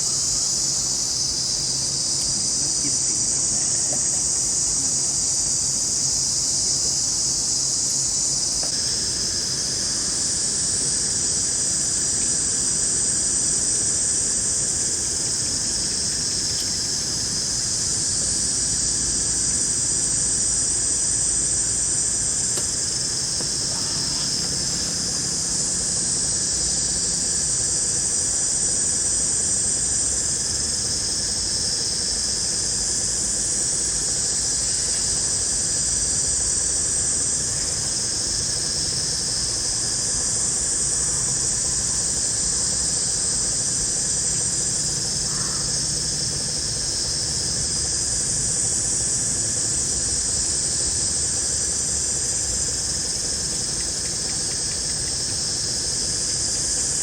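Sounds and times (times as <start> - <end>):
insects shrilling: 0.0 - 57.0.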